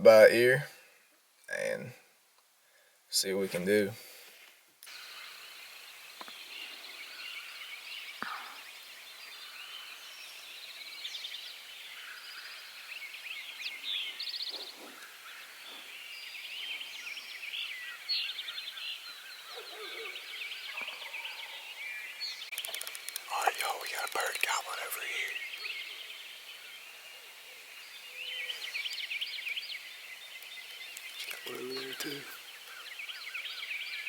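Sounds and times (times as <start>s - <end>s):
songbirds chirping and trilling: 0.0s - 2.0s, 3.1s - 34.0s.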